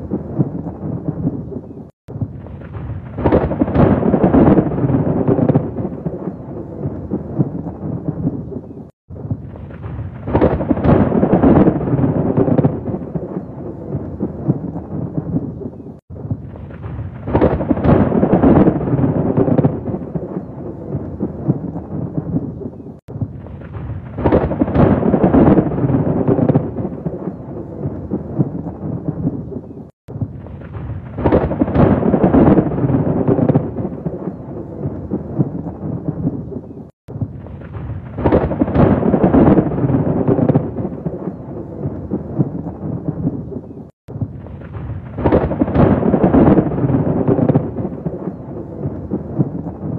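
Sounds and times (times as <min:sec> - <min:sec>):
thunder rolling: 0:00.0 - 0:49.9.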